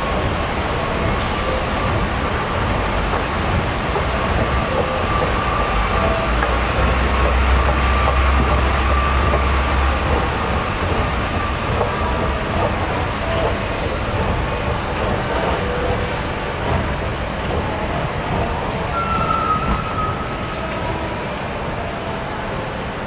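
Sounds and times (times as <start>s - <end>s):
train rumble and hiss: 0.0s - 23.0s.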